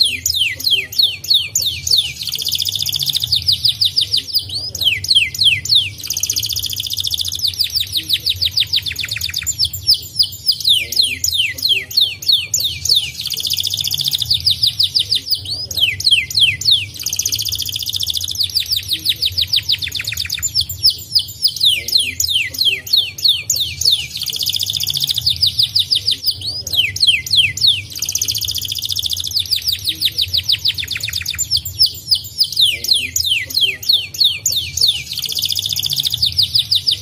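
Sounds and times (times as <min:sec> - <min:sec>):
canary singing: 0:00.0 - 0:37.0.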